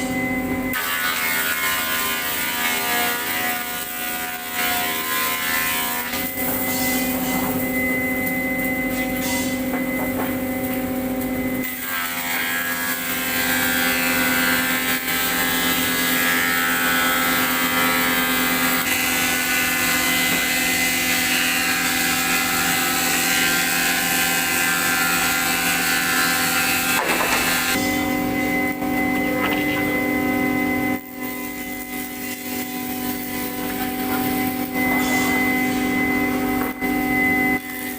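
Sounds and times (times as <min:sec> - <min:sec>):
woodworking machine humming: 0:00.0 - 0:37.9.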